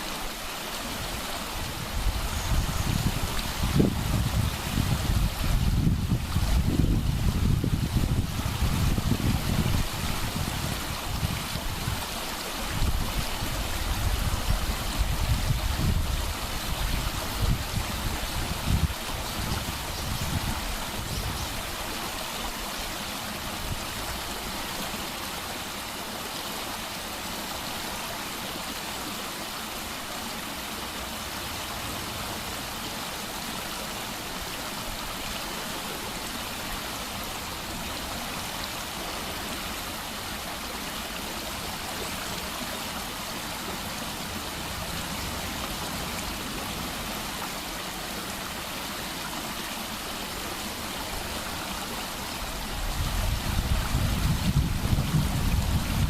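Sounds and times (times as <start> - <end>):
stream gushing over rocks: 0.0 - 56.0.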